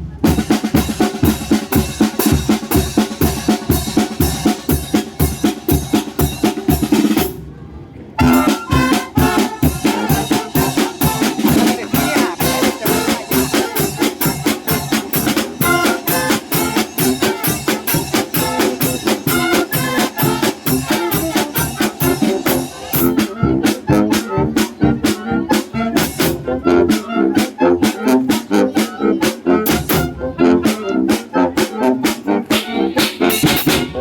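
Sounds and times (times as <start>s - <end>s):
brass: 0.0s - 7.4s, 8.2s - 34.0s
drums and cymbals beat: 0.0s - 7.4s, 8.2s - 34.0s
wind band playing a polka: 0.0s - 7.5s, 8.1s - 34.0s.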